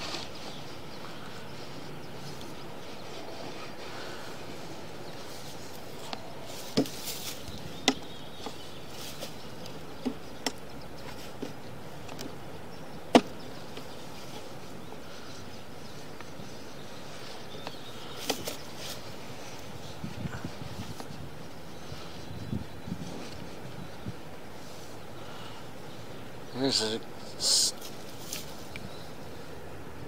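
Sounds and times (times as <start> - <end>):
steady hiss: 0.0 - 22.3, 22.9 - 30.0.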